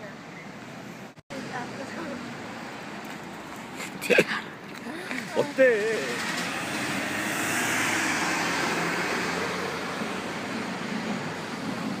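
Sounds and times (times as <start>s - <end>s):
low hum of engines: 0.0s - 12.0s
road traffic rush: 0.0s - 12.0s.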